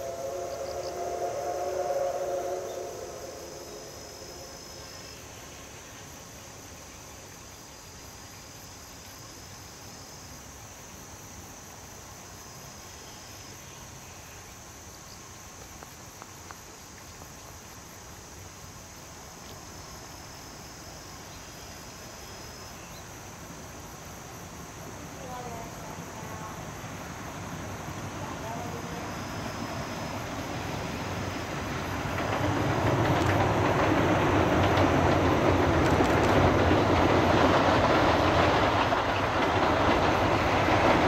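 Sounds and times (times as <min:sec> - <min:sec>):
faint background hiss: 0:00.0 - 0:41.0
insects trilling high: 0:00.0 - 0:41.0
lower insect trill: 0:00.0 - 0:41.0.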